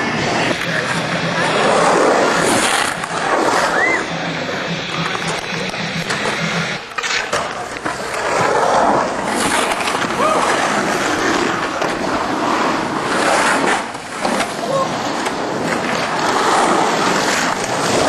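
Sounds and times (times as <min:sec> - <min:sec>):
sharp skateboard clack: 0:00.0 - 0:18.0
skateboard wheels rolling on concrete: 0:00.0 - 0:18.0.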